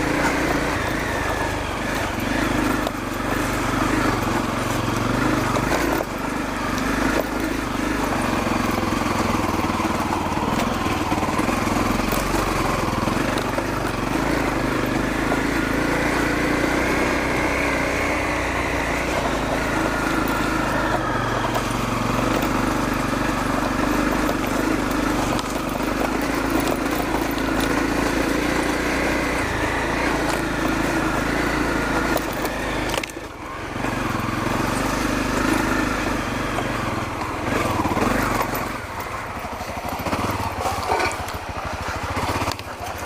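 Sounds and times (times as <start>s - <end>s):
dirt bike engine running: 0.0s - 43.0s.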